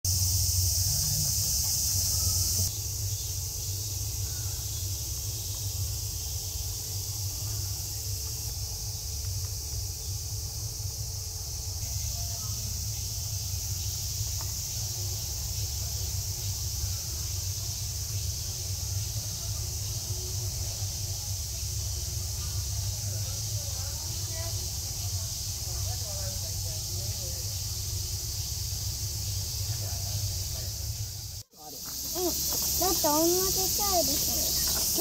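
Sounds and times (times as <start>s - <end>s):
cicadas chorusing: 0.1s - 35.0s.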